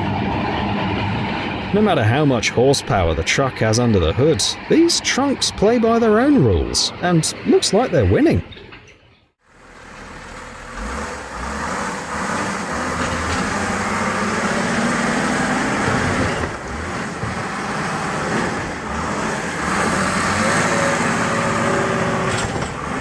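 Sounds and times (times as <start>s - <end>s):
truck engine straining under load: 0.0s - 23.0s.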